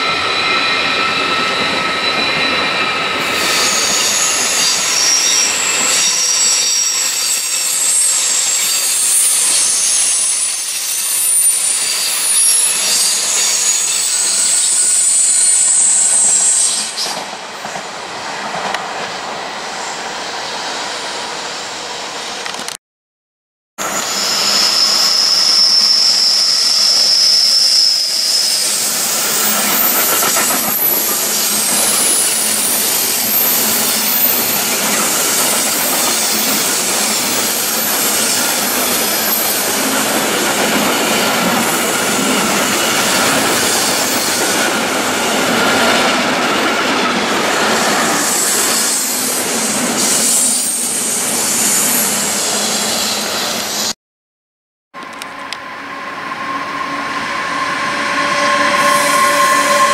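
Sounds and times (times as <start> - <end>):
train wheel squeal: 0.0 - 18.0, 23.8 - 54.0, 55.2 - 59.9
freight train rumbling past: 0.0 - 22.4, 23.8 - 53.9, 55.0 - 59.9.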